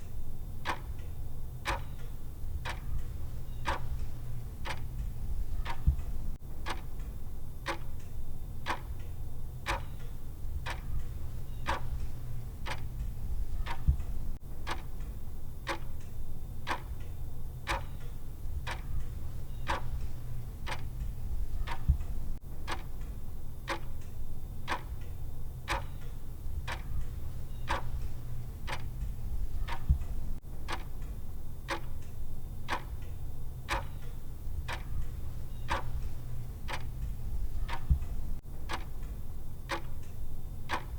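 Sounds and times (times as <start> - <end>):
steady low hum: 0.0 - 40.9
clock timer ticking: 0.6 - 17.1, 17.7 - 40.9.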